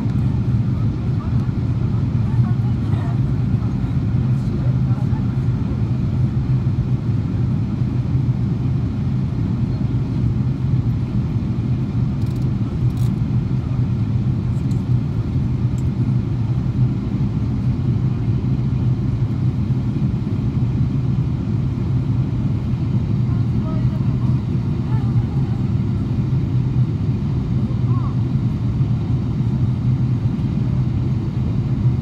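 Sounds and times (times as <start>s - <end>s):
airplane cabin engine drone: 0.0s - 32.0s.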